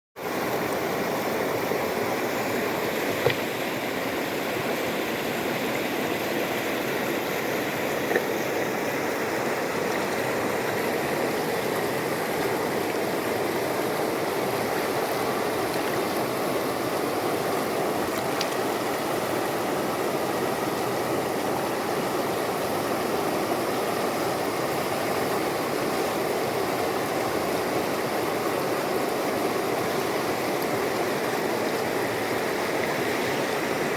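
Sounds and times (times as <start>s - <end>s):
river water rushing: 0.2s - 33.9s.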